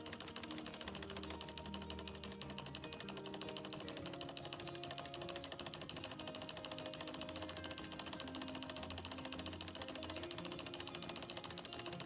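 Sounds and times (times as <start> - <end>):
background music with held notes: 0.0 - 12.0
sewing machine running fast: 0.0 - 12.0.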